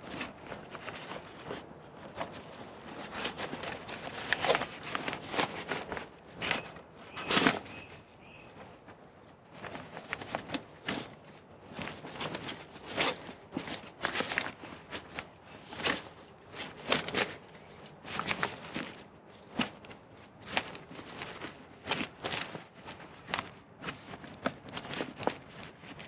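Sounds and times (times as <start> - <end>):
waterproof bag rustling and crinkling: 0.0 - 26.0.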